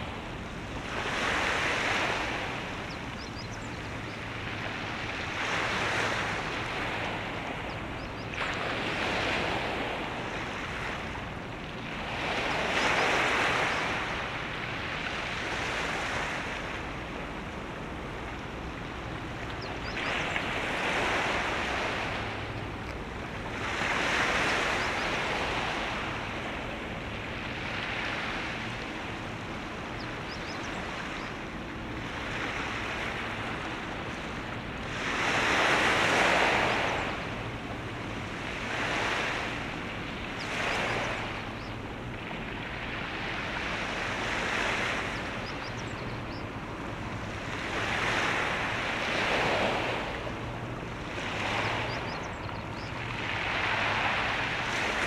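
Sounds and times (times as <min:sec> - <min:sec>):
waves washing in: 0:00.0 - 0:55.0.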